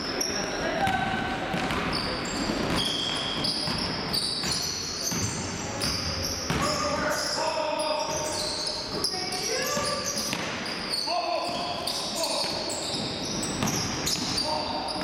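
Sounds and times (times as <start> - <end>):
sneakers squeaking: 0.0 - 15.0.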